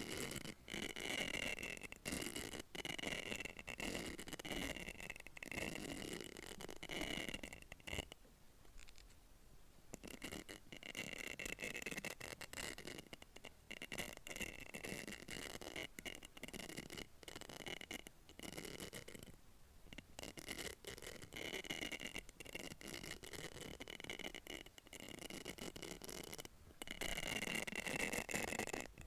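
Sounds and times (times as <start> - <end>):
tool scratching a hollow capsule: 0.0 - 9.1, 9.9 - 29.0.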